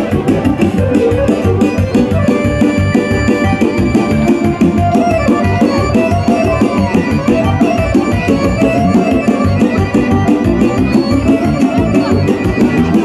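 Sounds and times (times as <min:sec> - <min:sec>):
accordion: 0:00.0 - 0:13.0
electronic keyboard melody: 0:00.0 - 0:13.0
steady drum beat: 0:00.0 - 0:13.0.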